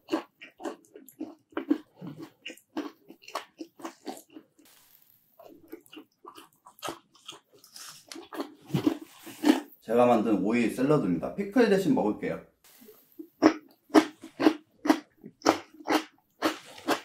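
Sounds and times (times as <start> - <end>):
hard pizza crust crunching: 0.0 - 9.8, 12.9 - 17.0.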